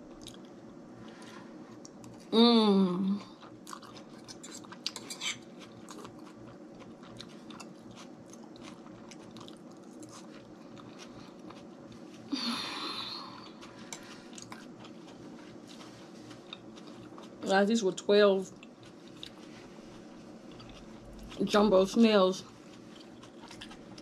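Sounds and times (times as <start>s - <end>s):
chewing and mouth sounds: 0.1s - 2.3s, 3.1s - 12.3s, 13.0s - 17.5s, 18.5s - 24.0s.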